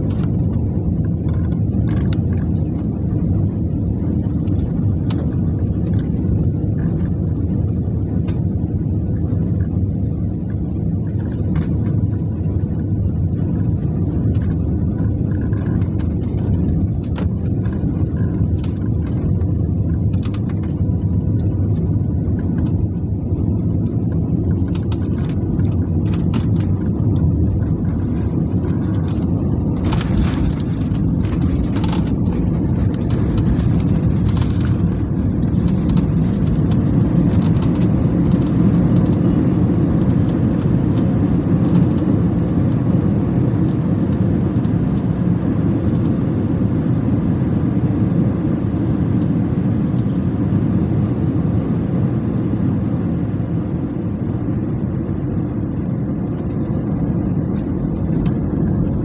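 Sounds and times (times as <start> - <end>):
airliner engine and airflow rumble: 0.0 - 59.0.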